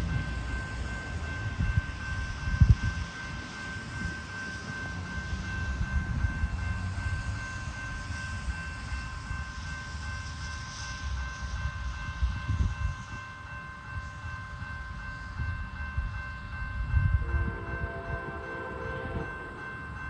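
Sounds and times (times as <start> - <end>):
passenger train rumbling past: 0.0 - 20.0
steady high-pitched tones: 0.0 - 20.0.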